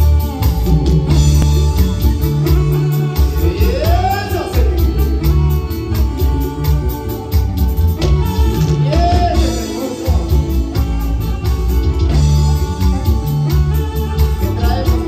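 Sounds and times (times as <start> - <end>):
live band dance beat: 0.0 - 15.0.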